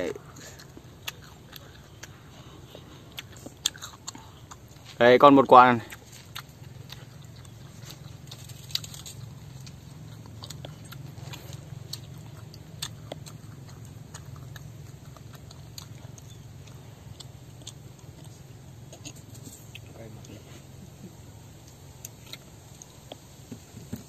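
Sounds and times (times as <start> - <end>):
crunchy biting and chewing: 0.0 - 24.0
steady low hum: 0.0 - 24.0.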